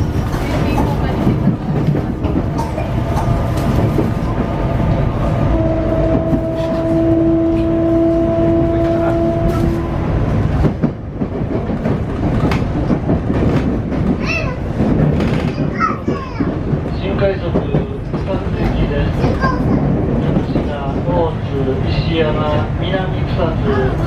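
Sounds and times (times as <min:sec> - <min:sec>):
train running noise: 0:00.0 - 0:24.0.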